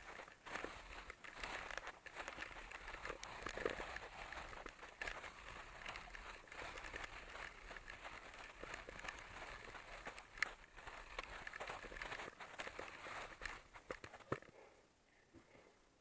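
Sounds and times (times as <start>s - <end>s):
footsteps crunching in snow: 0.0s - 14.5s.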